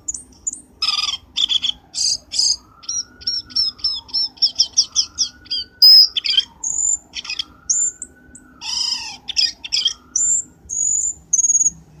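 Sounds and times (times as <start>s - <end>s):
bird chirps and whistles: 0.1s - 11.8s
faint slow rising whistles: 1.6s - 11.8s.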